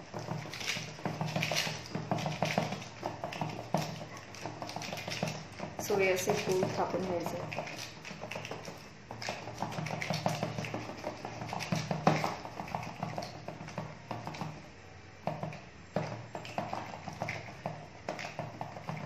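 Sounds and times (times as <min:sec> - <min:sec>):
fingers patting dough: 0:00.0 - 0:19.0.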